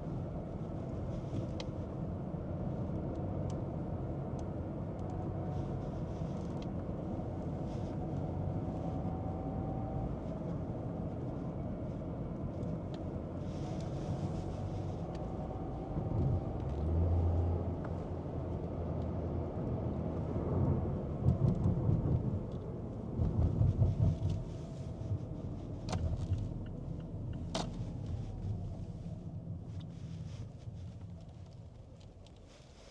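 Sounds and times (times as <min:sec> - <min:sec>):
car road and engine rumble: 0:00.0 - 0:32.9.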